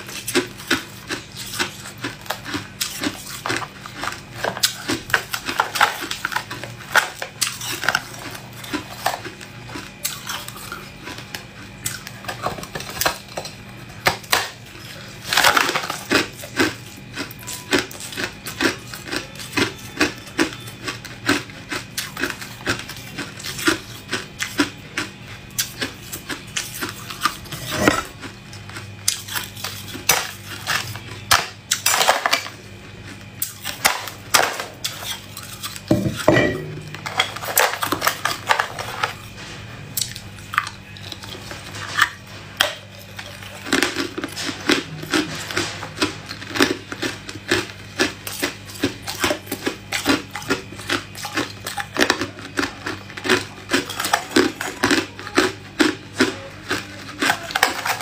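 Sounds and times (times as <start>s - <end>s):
ice being chewed: 0.0s - 39.4s, 40.0s - 58.0s.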